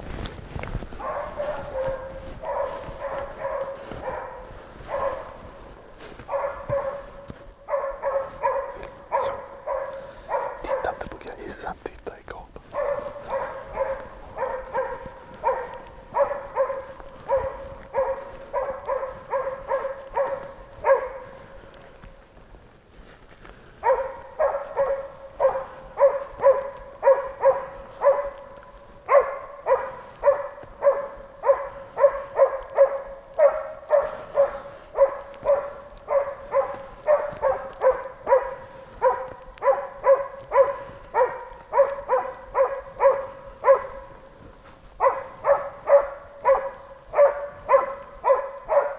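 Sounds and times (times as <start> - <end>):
dog barking rhythmically: 1.0 - 11.8, 12.6 - 21.6, 23.8 - 44.4, 45.0 - 48.9.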